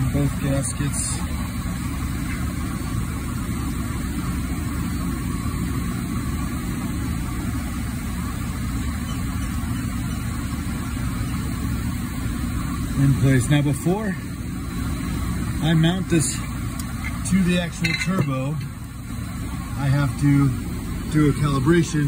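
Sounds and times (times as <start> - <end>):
low machine rumble: 0.0 - 22.0.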